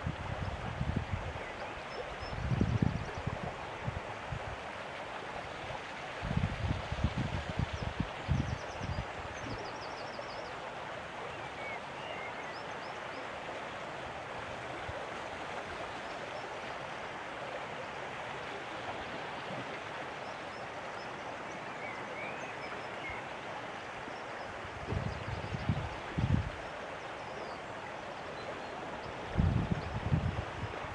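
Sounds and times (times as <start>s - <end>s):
running water rushing: 0.0s - 30.9s.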